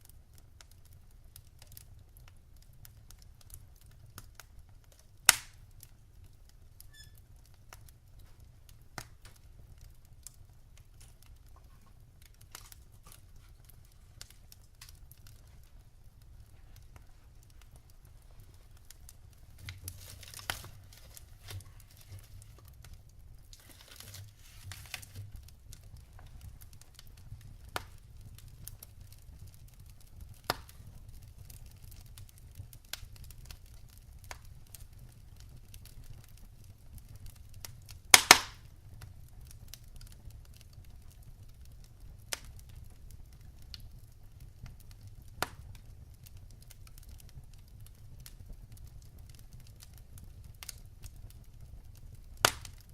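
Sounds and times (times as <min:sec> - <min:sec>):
loud pops of burning wood: 0:00.0 - 0:52.9
low steady fire rumble: 0:00.0 - 0:52.9
wood fire crackling: 0:00.0 - 0:52.9.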